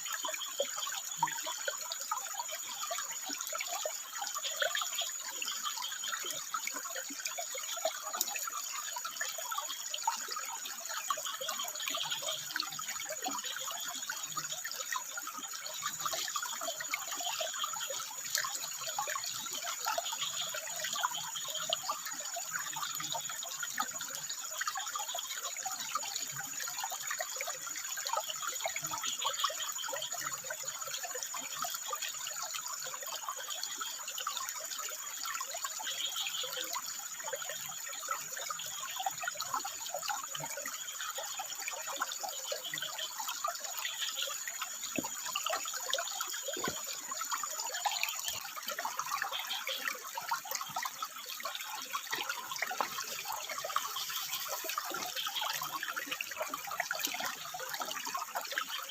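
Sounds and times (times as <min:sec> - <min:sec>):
water trickling over rocks: 0:00.0 - 0:58.9.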